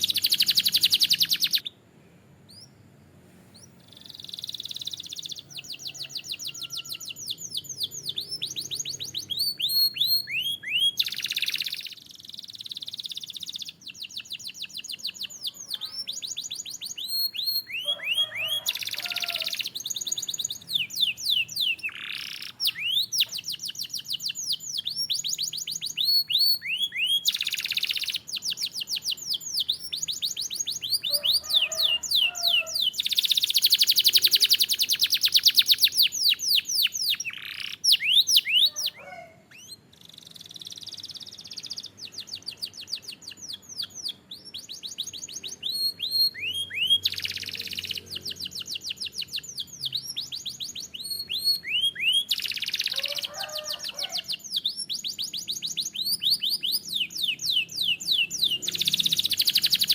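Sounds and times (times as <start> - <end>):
canary singing: 0.0 - 1.8, 2.5 - 2.9, 3.5 - 59.9.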